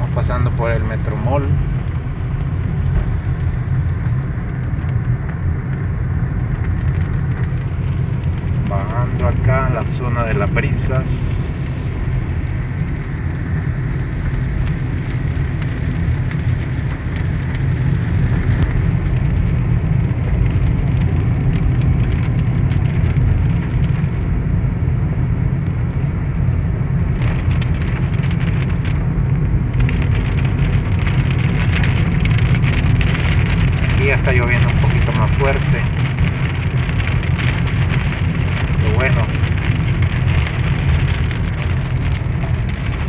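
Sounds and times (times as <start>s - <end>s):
engine and road rumble: 0.0s - 43.0s
rain ticking on windshield: 0.0s - 43.0s.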